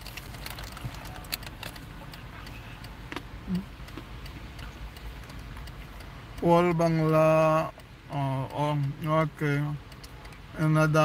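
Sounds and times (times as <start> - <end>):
car rumble from inside cabin: 0.0 - 11.0
light clicks and ticks: 0.0 - 11.0.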